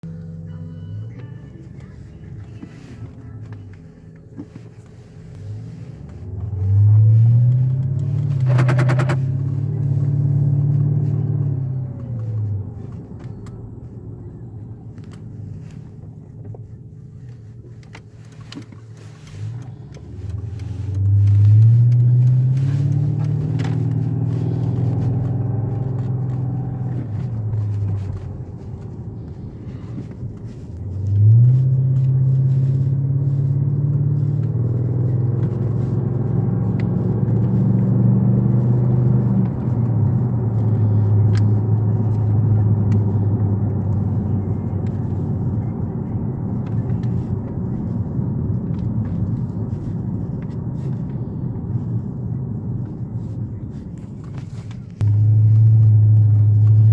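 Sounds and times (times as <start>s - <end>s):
car engine pulling away: 0.0s - 56.9s.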